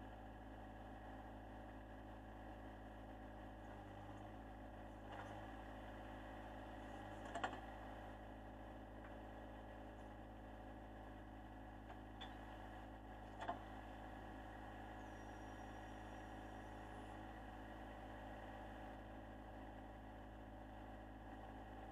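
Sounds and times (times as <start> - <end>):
tractor diesel engine idling: 0.0 - 21.9.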